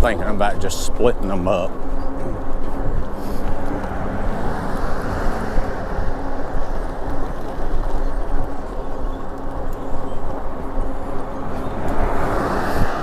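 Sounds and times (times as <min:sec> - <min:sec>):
road noise: 0:00.0 - 0:13.0
wind rush on microphone: 0:01.7 - 0:13.0.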